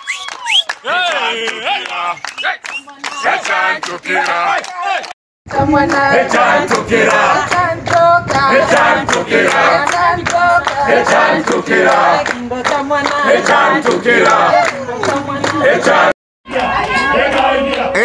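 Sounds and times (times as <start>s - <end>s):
group singing in chorus: 3.2s - 18.0s.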